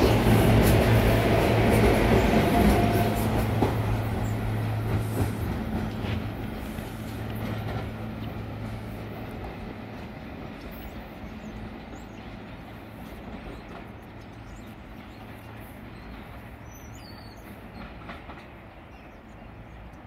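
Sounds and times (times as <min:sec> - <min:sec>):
electric train hum: 0:00.0 - 0:20.0
wheel on rail noise: 0:00.0 - 0:20.0.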